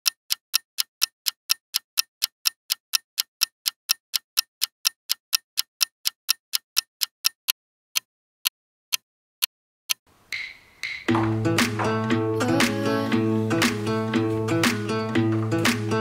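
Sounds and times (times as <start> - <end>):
clock ticking: 0.0 - 14.3.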